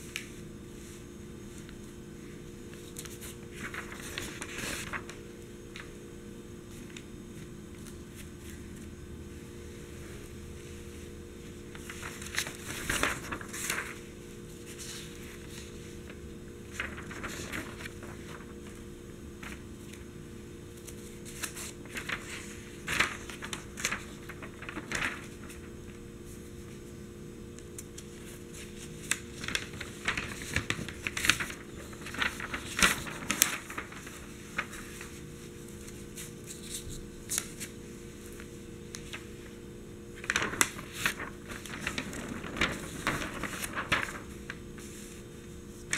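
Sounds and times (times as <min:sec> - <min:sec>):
newspaper pages rustling: 0:00.0 - 0:06.0, 0:10.9 - 0:27.0, 0:27.6 - 0:45.9.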